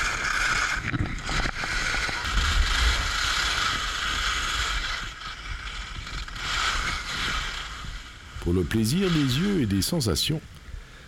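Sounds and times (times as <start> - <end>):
skis scraping over snow: 0.0 - 10.4.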